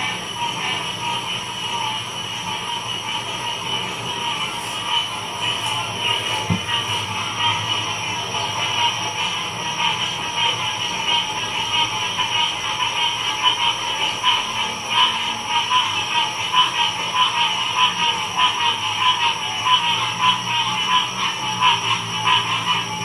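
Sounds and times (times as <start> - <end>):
frog chorus: 0.0 - 23.0
low steady drone: 0.0 - 23.0.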